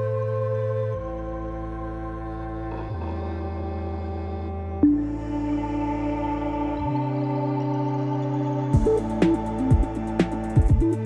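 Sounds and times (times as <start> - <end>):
soft sustained synth chords: 0.0 - 11.0.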